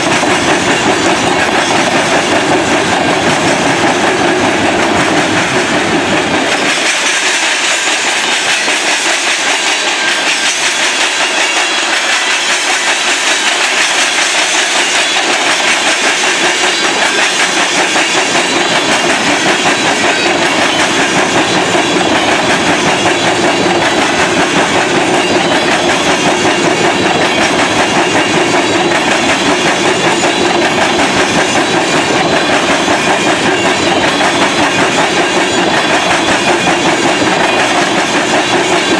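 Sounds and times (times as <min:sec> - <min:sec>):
railroad cars rolling past: 0:00.0 - 0:38.9.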